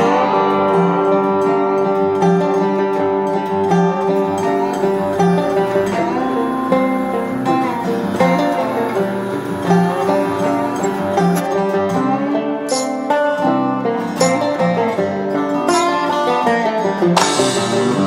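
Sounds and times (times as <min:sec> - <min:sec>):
bluegrass acoustic guitar and banjo: 0:00.0 - 0:18.0.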